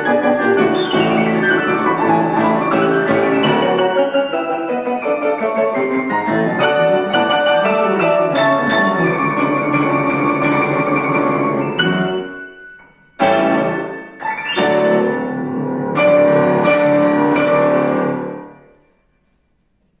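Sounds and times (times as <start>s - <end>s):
piano chords: 0.0s - 19.6s.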